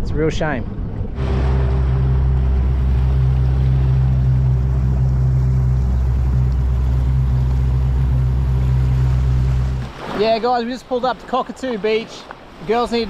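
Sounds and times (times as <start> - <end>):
outboard motor humming: 0.8 - 11.3
hiss of water and wind: 2.5 - 13.0.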